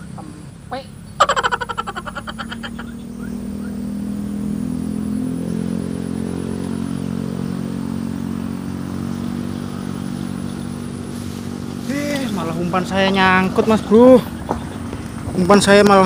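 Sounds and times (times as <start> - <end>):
small engine running: 0.0 - 15.6.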